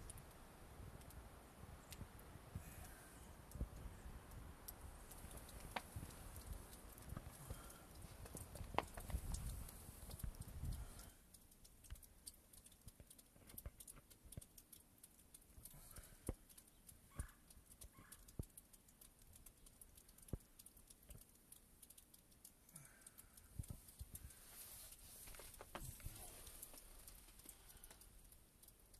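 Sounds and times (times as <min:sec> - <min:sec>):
faint ticks and clicks: 0:00.0 - 0:28.9.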